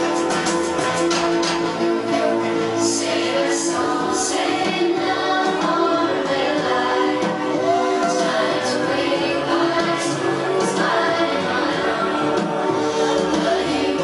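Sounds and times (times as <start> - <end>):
choir-like singing voice: 2.1 - 14.0.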